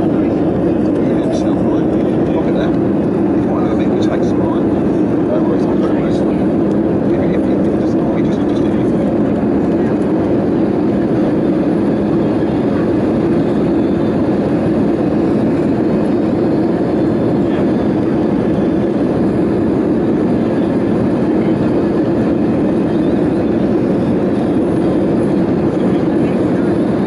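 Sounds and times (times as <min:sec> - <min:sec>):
airplane cabin engine drone: 0:00.0 - 0:27.0.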